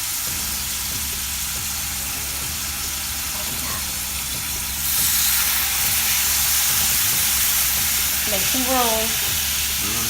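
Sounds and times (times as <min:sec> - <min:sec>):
steak sizzling in a pan: 0:00.0 - 0:10.0.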